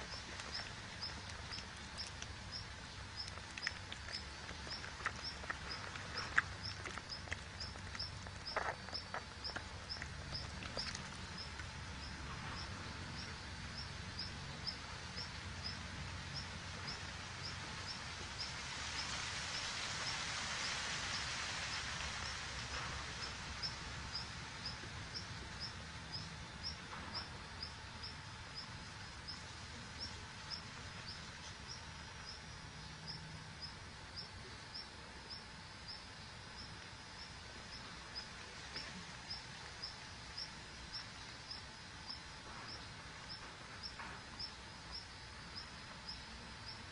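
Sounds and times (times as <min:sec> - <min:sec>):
steady hiss: 0:00.0 - 0:46.9.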